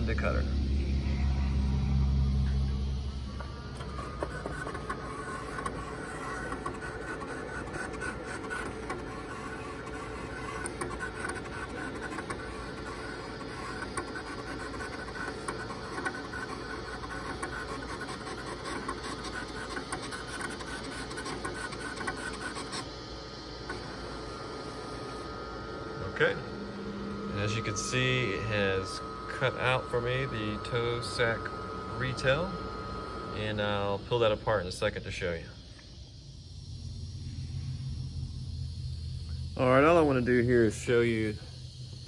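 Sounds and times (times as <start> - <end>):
servo motors whining: 0.0 - 42.0.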